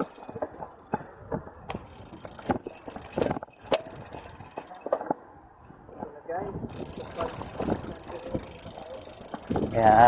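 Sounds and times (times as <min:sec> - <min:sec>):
bicycle frame knocks and rattles: 0:00.0 - 0:05.1, 0:06.6 - 0:10.0
bicycle rolling: 0:00.0 - 0:10.0.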